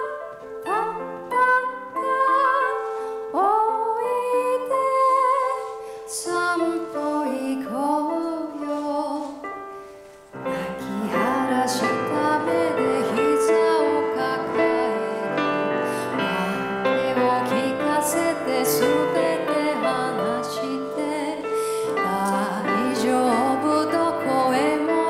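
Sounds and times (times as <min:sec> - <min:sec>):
woman singing into a microphone: 0:00.0 - 0:09.6, 0:10.5 - 0:25.0.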